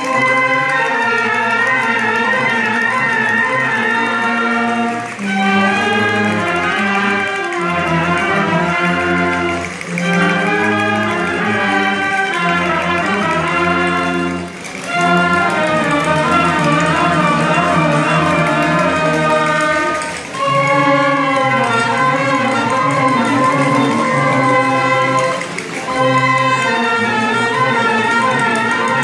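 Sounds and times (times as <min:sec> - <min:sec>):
wind band playing dance tune: 0:00.0 - 0:29.0.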